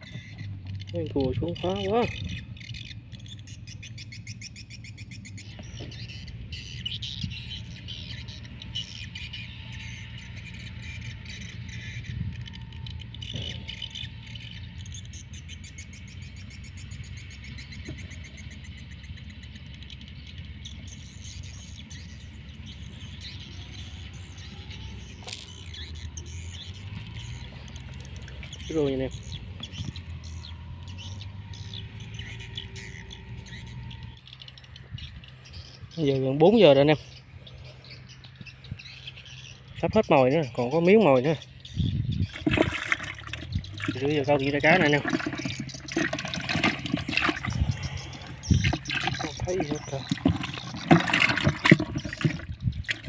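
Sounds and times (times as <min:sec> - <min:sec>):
birds chirping and twittering: 0:00.0 - 0:53.0.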